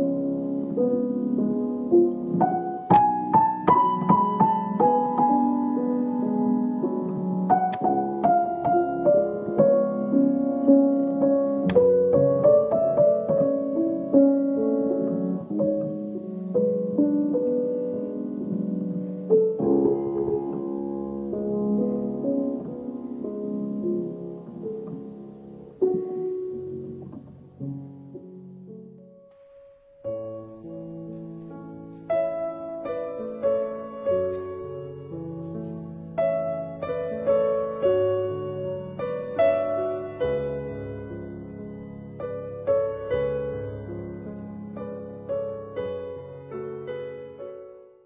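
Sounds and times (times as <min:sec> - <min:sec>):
slow piano piece: 0:00.0 - 0:48.0.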